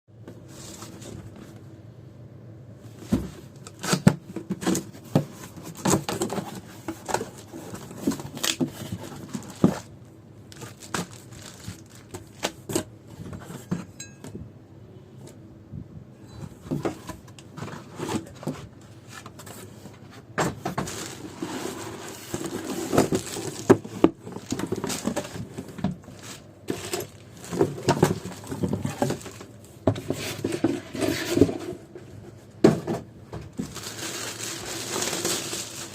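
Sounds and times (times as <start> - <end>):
cardboard and plastic rustling: 0.2 - 1.7, 2.9 - 14.0, 16.3 - 35.9.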